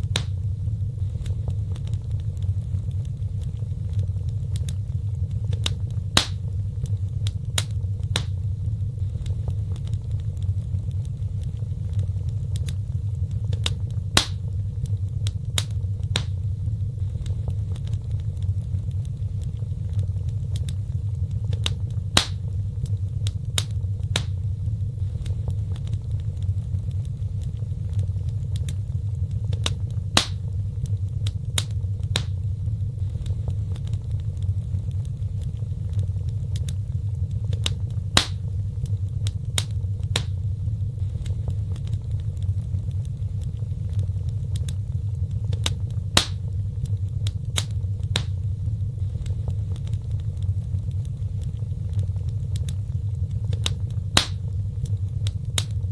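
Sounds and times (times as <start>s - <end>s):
wood fire crackling in fireplace: 0.0s - 55.9s.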